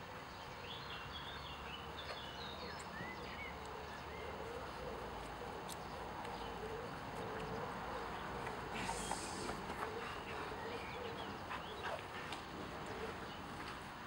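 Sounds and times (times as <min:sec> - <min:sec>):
outdoor background hiss: 0:00.0 - 0:14.0
small birds chirping: 0:00.3 - 0:13.8.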